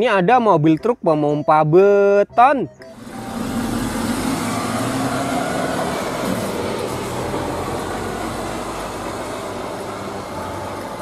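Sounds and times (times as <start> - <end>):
diesel engine rumbling: 0.0 - 11.0
street noise: 0.0 - 11.0.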